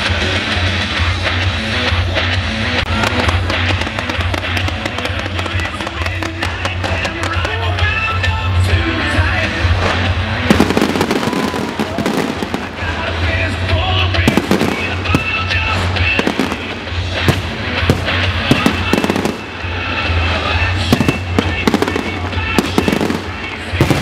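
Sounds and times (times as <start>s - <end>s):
loud music: 0.0s - 24.0s
fireworks bangs: 2.9s - 24.0s.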